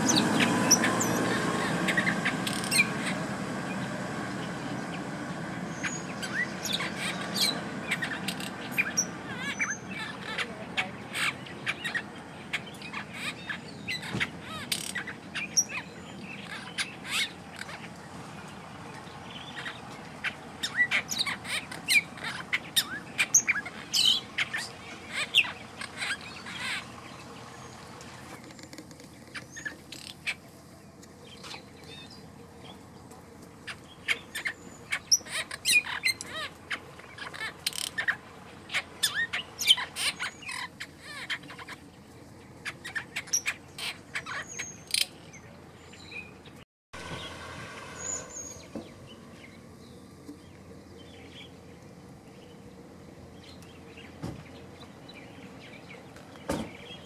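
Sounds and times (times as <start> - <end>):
wild birds chirping: 0.0 - 57.0.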